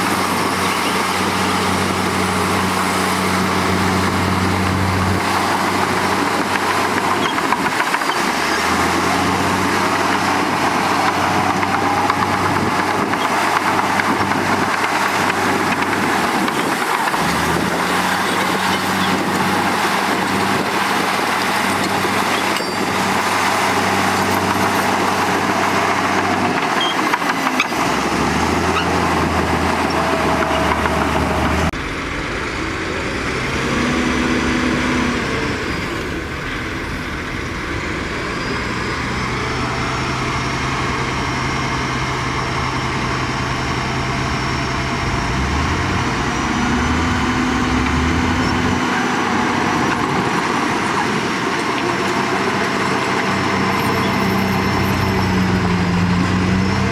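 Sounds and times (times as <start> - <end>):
heavy diesel machinery engines: 0.0 - 56.9.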